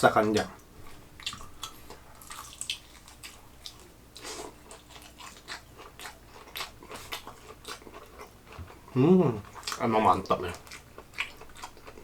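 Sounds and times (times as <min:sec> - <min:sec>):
crunchy fried chicken chewing: 0:01.2 - 0:12.0.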